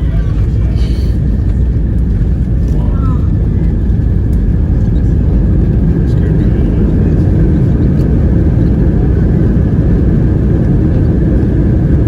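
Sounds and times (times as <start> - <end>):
airliner low rumble: 0.0 - 12.0.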